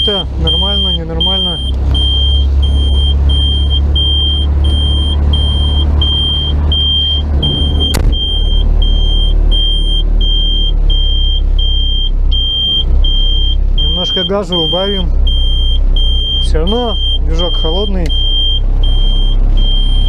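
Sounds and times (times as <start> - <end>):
diesel engine running: 0.0 - 20.0
warning buzzer beeping: 0.0 - 20.0.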